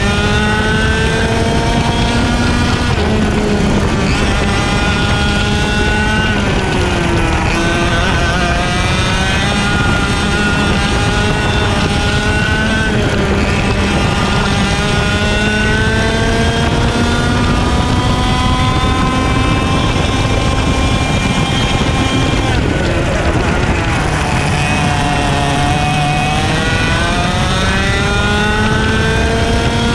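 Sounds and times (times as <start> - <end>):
kart engine revving: 0.0 - 29.9
rushing wind noise: 0.0 - 29.9.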